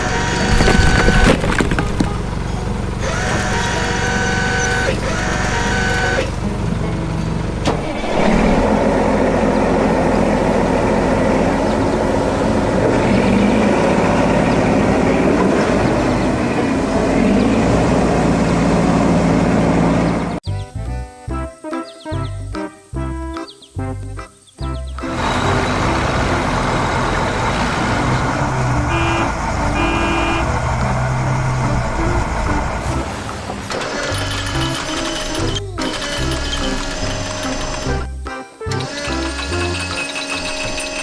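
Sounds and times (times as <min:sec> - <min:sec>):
heavy vehicle engine running: 0:00.0 - 0:20.4, 0:24.9 - 0:41.0.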